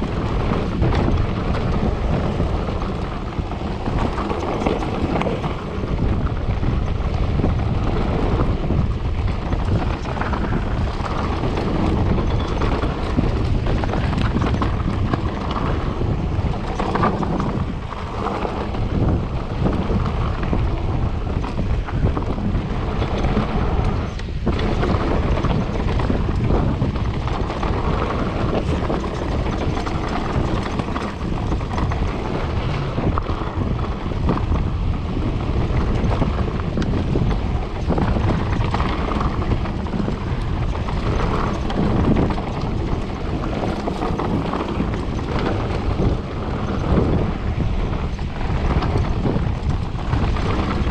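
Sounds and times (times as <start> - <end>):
bike tyres rumbling on trail: 0.0 - 50.9
wind buffeting microphone: 0.0 - 50.9.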